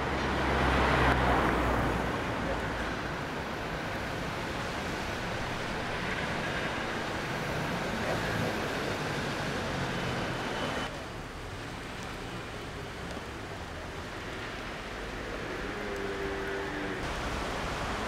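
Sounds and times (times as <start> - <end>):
town street background noise: 0.0 - 18.0.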